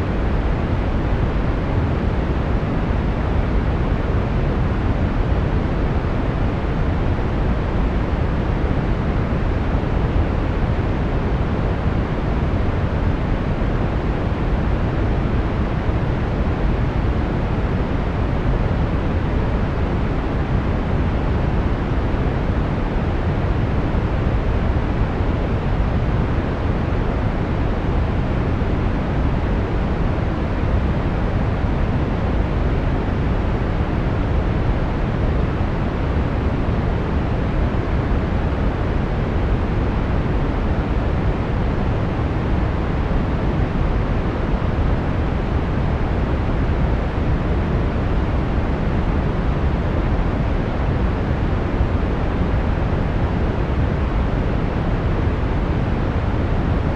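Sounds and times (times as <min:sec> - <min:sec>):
brown noise rumbling hiss: 0:00.0 - 0:56.9.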